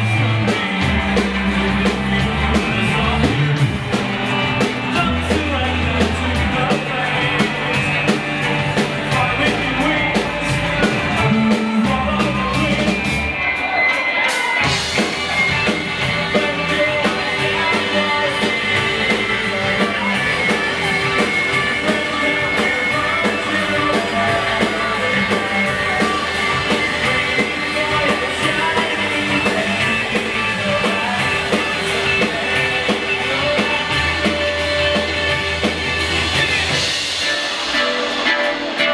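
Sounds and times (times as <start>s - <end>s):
drum kit: 0.0s - 38.9s
electric guitar: 0.0s - 38.9s
person singing: 0.0s - 38.9s
rock band playing live: 0.0s - 38.9s.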